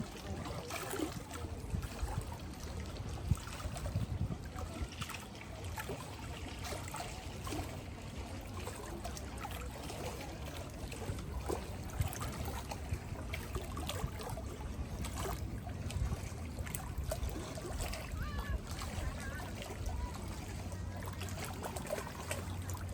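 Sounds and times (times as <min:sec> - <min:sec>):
lake water lapping: 0:00.0 - 0:22.9
low steady rumble: 0:00.0 - 0:22.9
small water splashes: 0:00.0 - 0:22.9.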